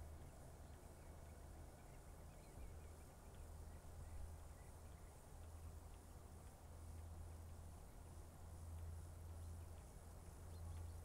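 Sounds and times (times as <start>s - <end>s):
birds chirping faintly: 0.0s - 11.0s
distant aircraft engines droning: 0.0s - 11.0s.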